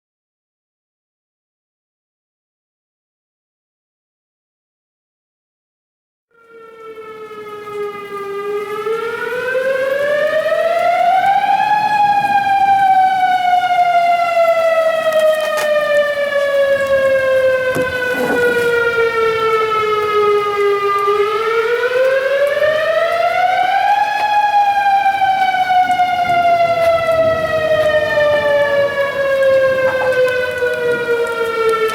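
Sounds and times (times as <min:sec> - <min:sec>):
warning siren wailing: 0:06.3 - 0:31.9.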